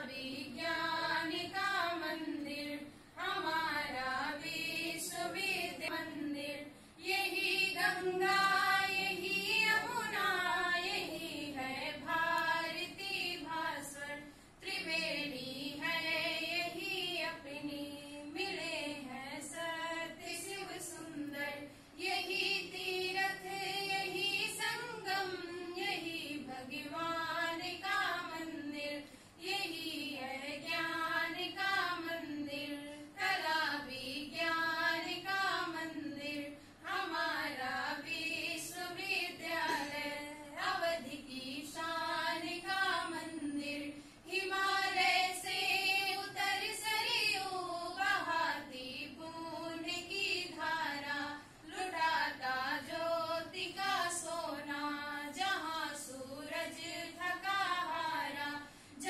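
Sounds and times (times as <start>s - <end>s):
girls singing together: 0.0s - 59.0s.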